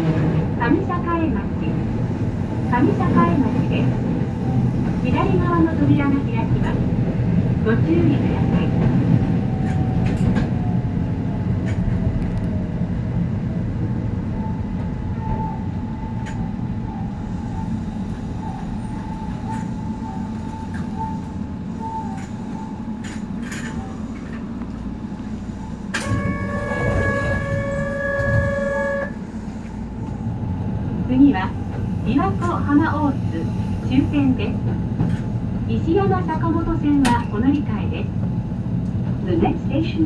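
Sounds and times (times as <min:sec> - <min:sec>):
train wheels and motors rumbling: 0:00.0 - 0:40.0.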